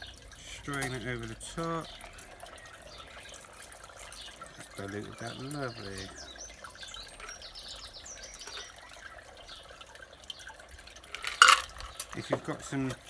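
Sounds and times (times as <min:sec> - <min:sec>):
cocktail trickling into glass: 0:00.0 - 0:13.0.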